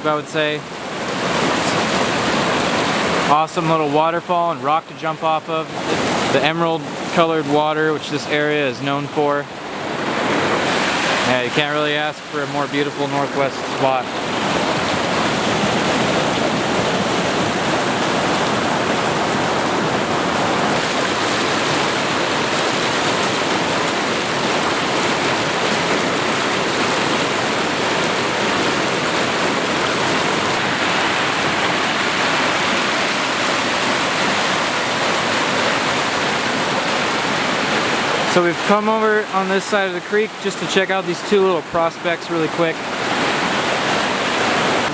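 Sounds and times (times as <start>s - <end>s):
creek water rushing over rocks: 0.0s - 44.9s.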